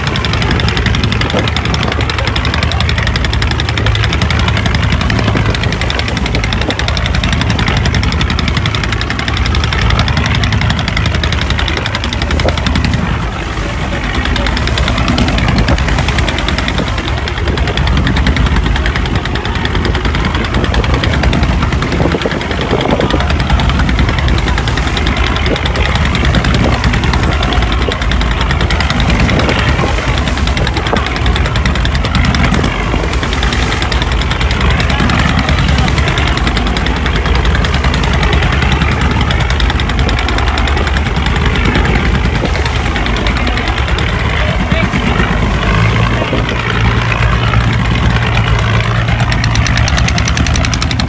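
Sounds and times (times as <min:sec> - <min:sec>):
boat diesel engine knocking: 0:00.0 - 0:51.0.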